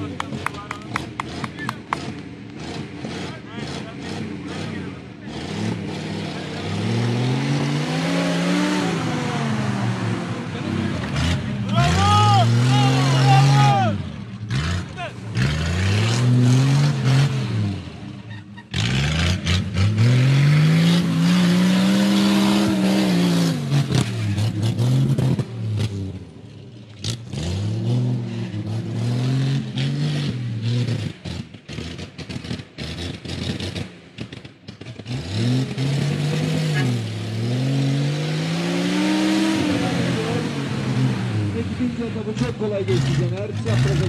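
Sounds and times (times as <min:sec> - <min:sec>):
engine revving hard: 0:00.0 - 0:26.2, 0:27.0 - 0:44.0.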